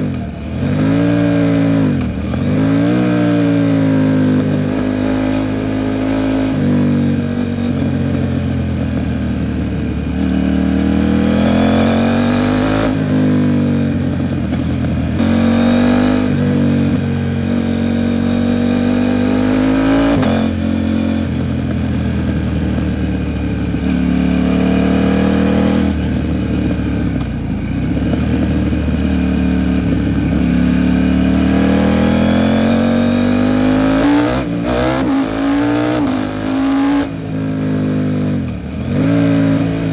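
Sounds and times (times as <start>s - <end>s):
motorcycle accelerating and upshifting: 0.0s - 39.9s.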